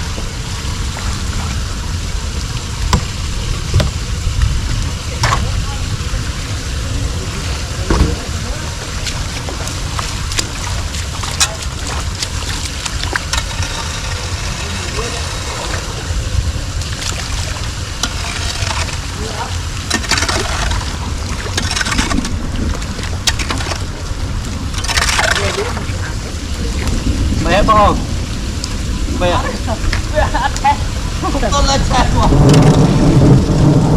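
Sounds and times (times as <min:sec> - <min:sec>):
floodwater rushing: 0:00.0 - 0:33.9
wind rumble on microphone: 0:00.0 - 0:33.9.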